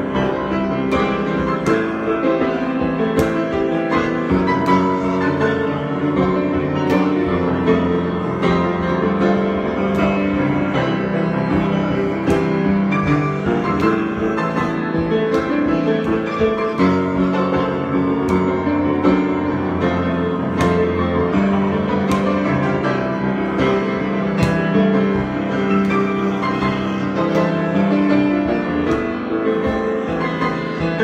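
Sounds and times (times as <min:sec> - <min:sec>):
piano chords: 0:00.0 - 0:31.0.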